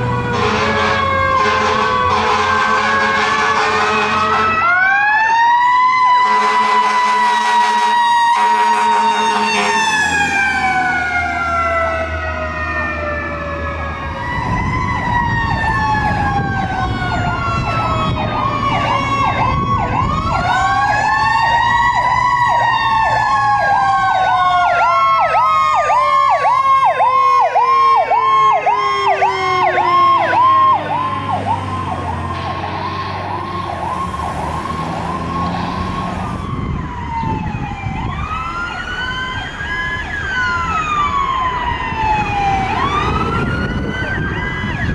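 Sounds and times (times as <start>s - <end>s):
electronic siren wailing and yelping: 0.0s - 44.9s
siren rising: 0.0s - 44.9s
siren winding down: 0.0s - 44.9s.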